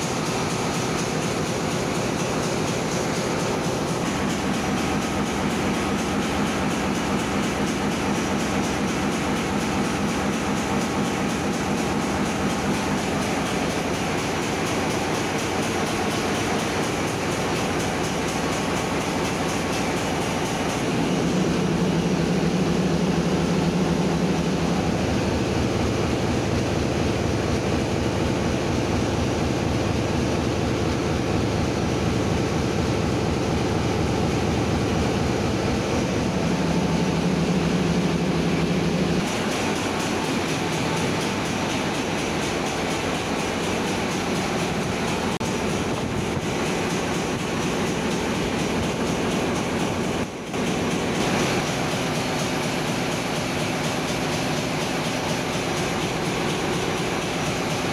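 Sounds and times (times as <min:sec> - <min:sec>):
engine-room machinery drone: 0:00.0 - 0:57.9.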